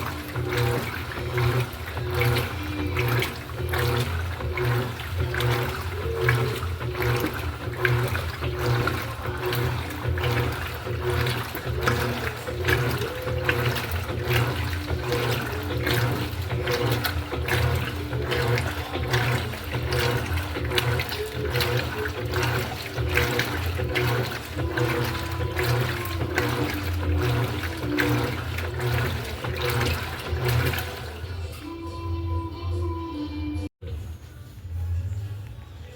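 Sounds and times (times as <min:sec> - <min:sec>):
washing machine sloshing water: 0:00.0 - 0:32.6
music playing: 0:00.0 - 0:35.9.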